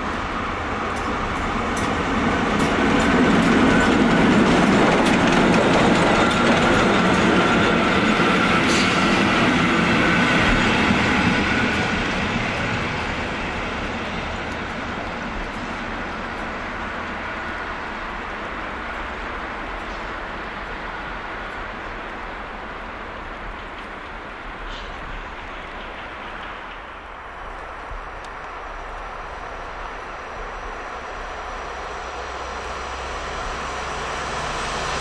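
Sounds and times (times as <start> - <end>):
steam train passing on rails: 0.0 - 35.0.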